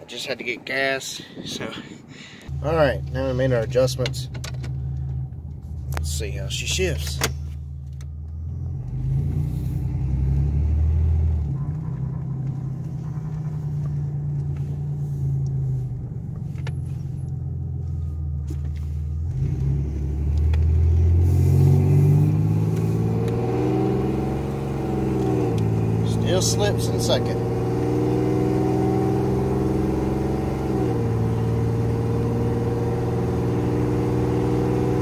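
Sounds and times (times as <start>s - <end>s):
car engine accelerating: 2.4s - 35.0s.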